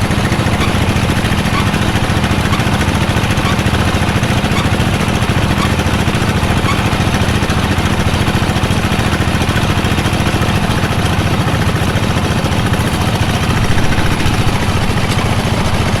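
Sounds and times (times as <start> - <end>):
drilling machine engine chugging: 0.0 - 16.0.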